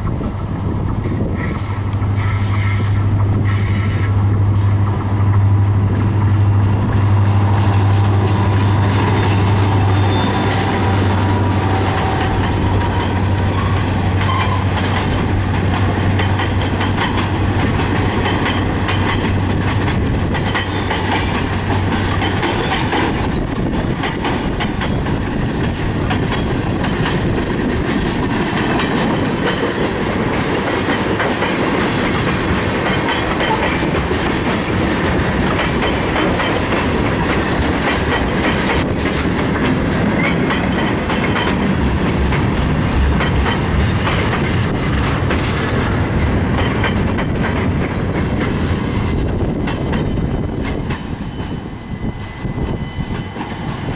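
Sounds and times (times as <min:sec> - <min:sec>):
freight cars rolling rumble: 0:00.0 - 0:51.7
diesel locomotive engine hum: 0:00.0 - 0:53.9
train wheels clicking over rail joints: 0:00.0 - 0:53.9.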